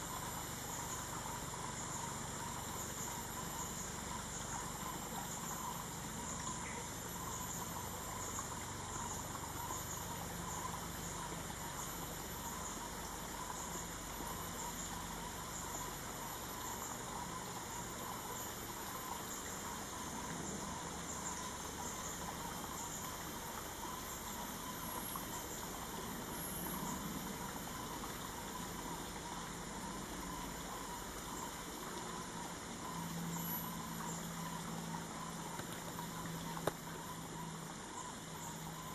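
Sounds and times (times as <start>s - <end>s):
steady ambient hiss: 0.0s - 38.9s.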